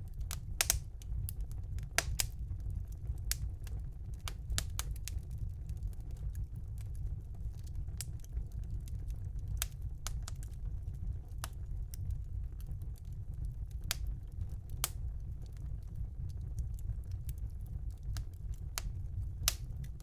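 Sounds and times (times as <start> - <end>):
fire crackling and popping: 0.0 - 20.0
fireplace fire rumbling: 0.0 - 20.0.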